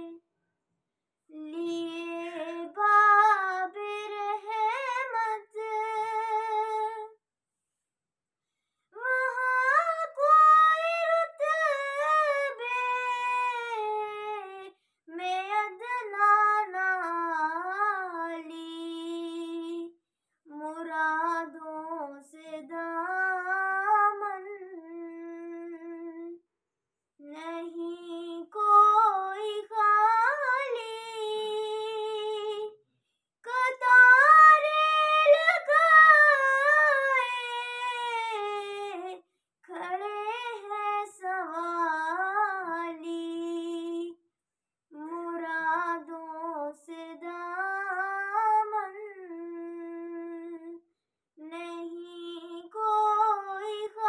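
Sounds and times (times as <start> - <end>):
girl singing devotional hymn: 1.3 - 7.1, 9.0 - 19.9, 20.5 - 26.3, 27.2 - 32.7, 33.5 - 44.2, 44.9 - 50.8, 51.4 - 54.0.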